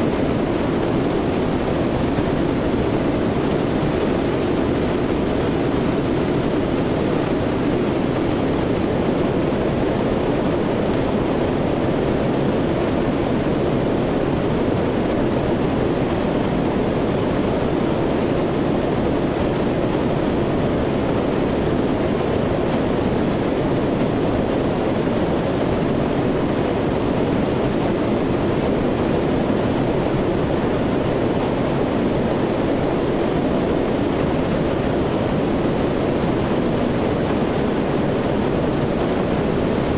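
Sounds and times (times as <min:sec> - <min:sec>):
turboprop engines in-flight rush: 0:00.0 - 0:39.9.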